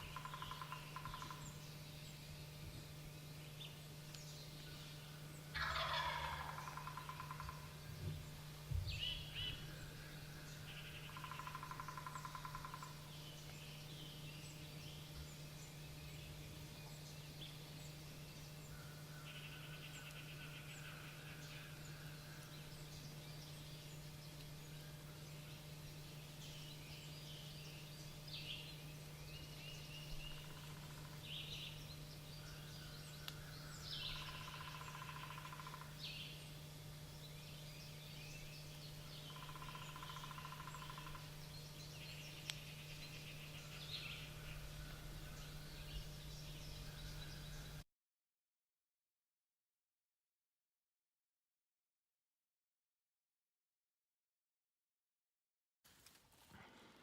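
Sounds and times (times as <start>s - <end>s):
songbirds trilling and chirping: 0.0s - 47.8s
steady low hum: 0.0s - 47.8s.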